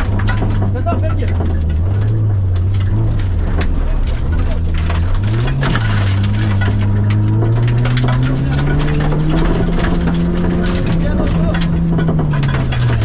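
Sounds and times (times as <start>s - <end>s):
car engine accelerating: 0.0s - 13.0s
gravel hitting car underside: 0.0s - 13.0s.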